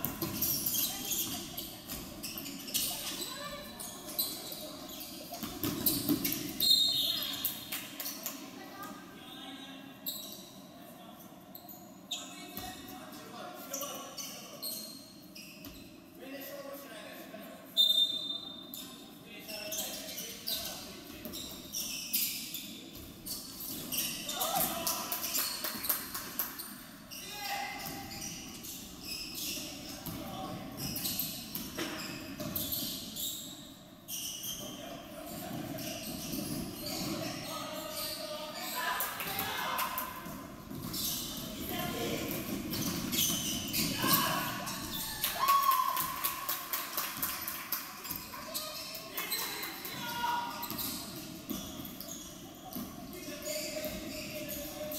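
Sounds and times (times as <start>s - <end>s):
sneakers squeaking: 0.0s - 10.8s, 11.4s - 16.6s, 17.7s - 54.9s
murmur of large hall: 0.0s - 54.9s.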